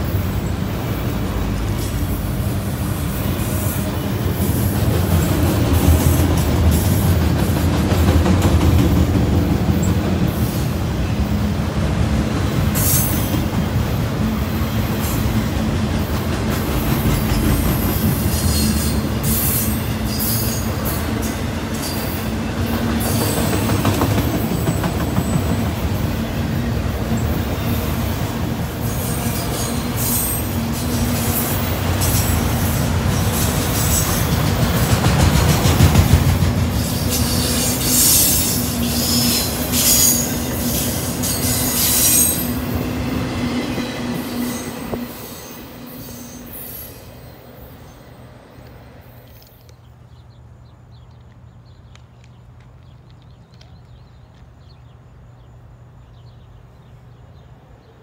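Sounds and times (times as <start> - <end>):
steel wheels rumbling on rails: 0.0 - 49.1.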